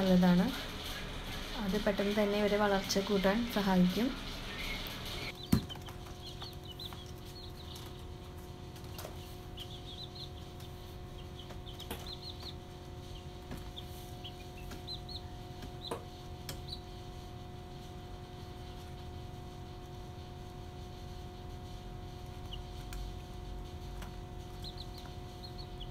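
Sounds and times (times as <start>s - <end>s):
faint steady hum: 0.0s - 25.9s
chicks peeping: 0.8s - 17.4s, 21.7s - 25.9s.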